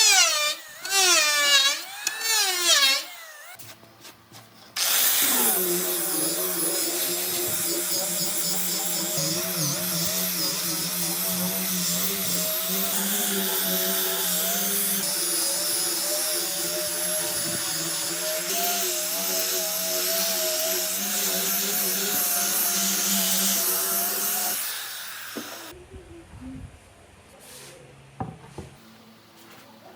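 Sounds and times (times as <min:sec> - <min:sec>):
power tool whining on wood: 0:00.0 - 0:03.6, 0:04.8 - 0:25.7.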